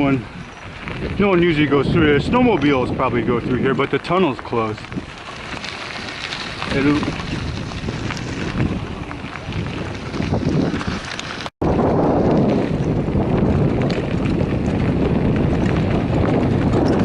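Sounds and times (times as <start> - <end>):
bicycle tyres rolling on gravel: 0.0 - 17.0
wind rushing over microphone: 0.0 - 17.0.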